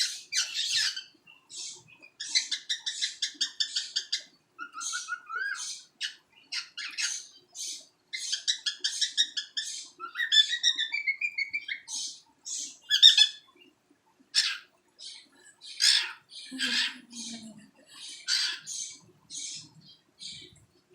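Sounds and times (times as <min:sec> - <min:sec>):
cockatiel chirping and warbling: 0:00.0 - 0:13.5, 0:14.4 - 0:17.4, 0:18.0 - 0:20.6.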